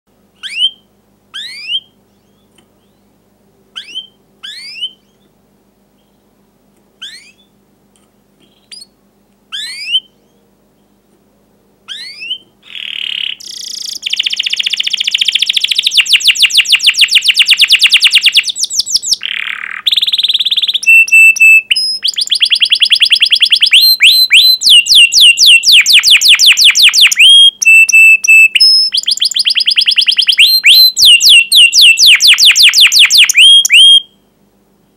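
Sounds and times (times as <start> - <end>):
canary song with trills: 0.2 - 7.6, 8.4 - 11.0, 11.8 - 34.4
canary chirps: 0.4 - 3.1, 3.7 - 6.4, 7.0 - 7.6, 8.4 - 11.0, 11.8 - 34.3.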